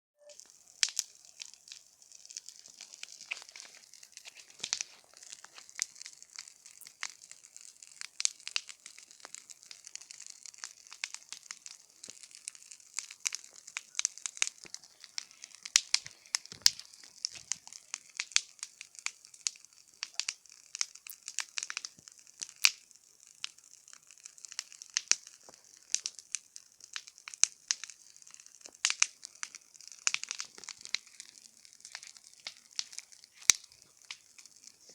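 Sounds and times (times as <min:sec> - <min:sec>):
campfire crackling and popping: 0:00.3 - 0:34.9
steady fire hiss: 0:00.3 - 0:34.9.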